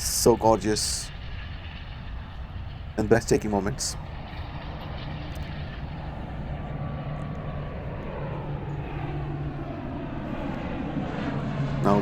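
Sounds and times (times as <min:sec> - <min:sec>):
faint thin engine whine: 0:00.0 - 0:12.0
jet engines rumbling: 0:00.0 - 0:12.0.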